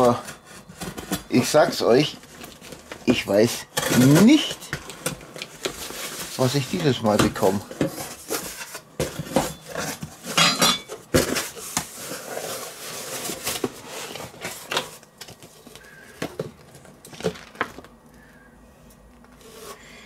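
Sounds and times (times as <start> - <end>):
paper packing filler rustling: 0.0 - 10.4, 11.0 - 17.9.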